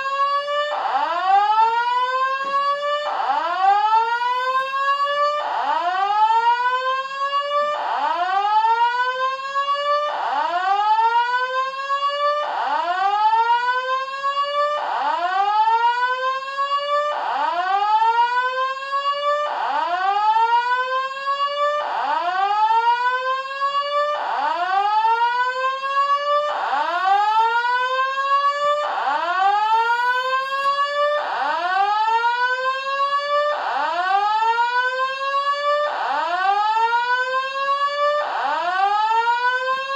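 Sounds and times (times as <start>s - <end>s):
fire alarm whoop tone: 0.0s - 39.9s.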